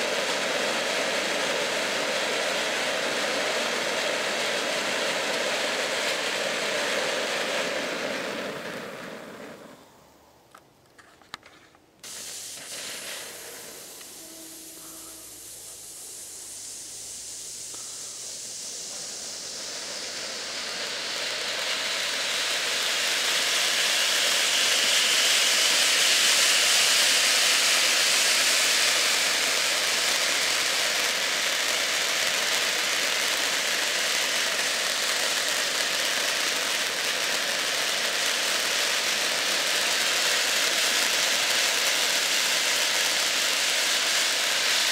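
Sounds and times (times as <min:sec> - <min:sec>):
firework fountain hissing: 0:00.0 - 0:44.9.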